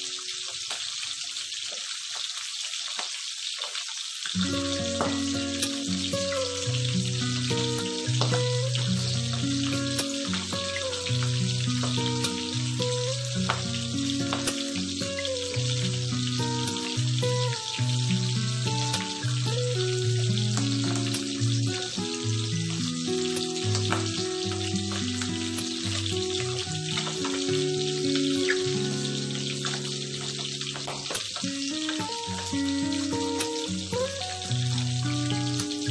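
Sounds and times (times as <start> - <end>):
fish sizzling in hot oil: 0.0 - 35.9
oil popping: 4.3 - 35.9.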